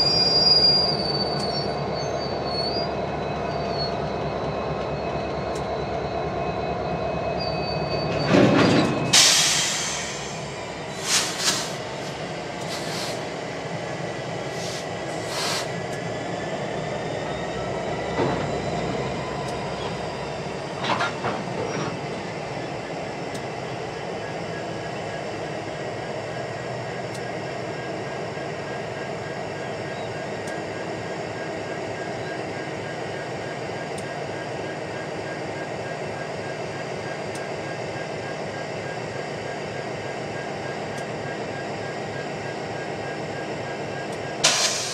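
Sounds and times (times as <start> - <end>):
diesel locomotive running: 0.0 - 44.9.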